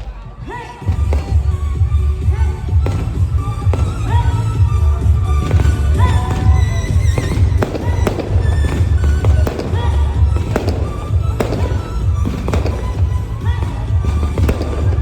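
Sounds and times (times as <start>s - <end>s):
fireworks bangs and crackles: 0.0s - 15.0s
loud music with heavy bass: 0.0s - 15.0s.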